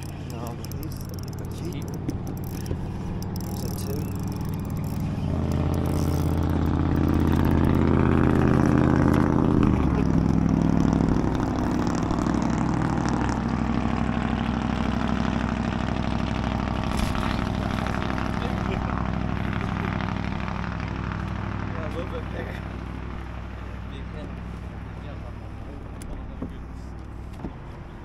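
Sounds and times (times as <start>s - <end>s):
engine droning: 0.0s - 28.0s.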